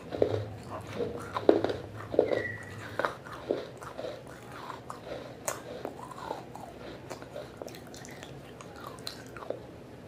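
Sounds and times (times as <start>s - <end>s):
clay pieces crunched and chewed: 0.0s - 9.6s.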